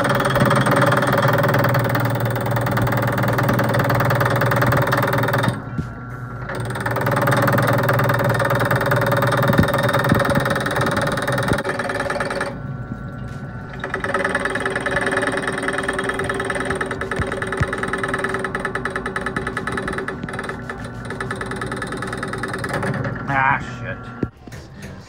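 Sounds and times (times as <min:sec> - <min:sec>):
drill press cutting metal: 0:00.0 - 0:05.7, 0:06.4 - 0:12.6, 0:13.6 - 0:23.8.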